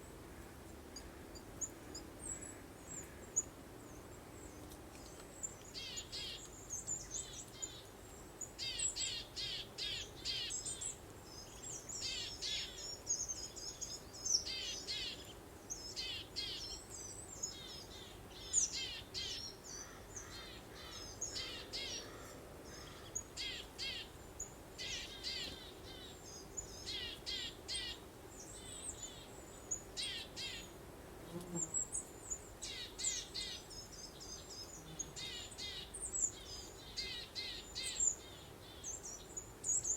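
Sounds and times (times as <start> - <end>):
faint background hiss: 0.0 - 39.9
small songbirds chirping: 0.0 - 39.9.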